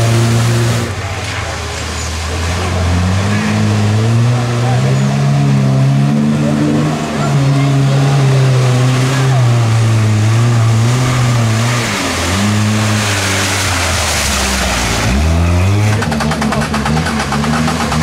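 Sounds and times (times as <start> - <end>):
water and mud splashing: 0.0 - 18.0
engine revving hard: 2.5 - 18.0.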